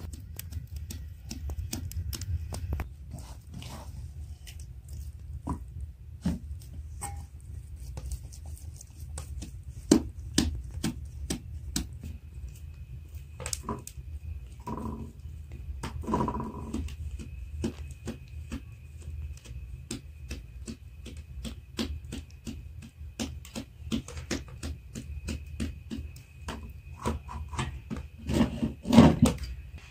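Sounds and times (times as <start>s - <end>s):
hands patting bread dough: 0.0s - 29.9s
steady low hum: 0.0s - 29.9s.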